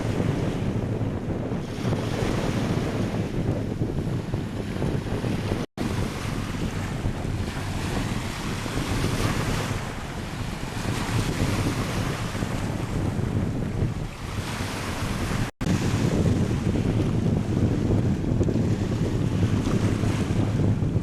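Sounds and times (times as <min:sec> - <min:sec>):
wind buffeting microphone: 0:00.0 - 0:21.0
surf breaking on beach: 0:01.5 - 0:21.0.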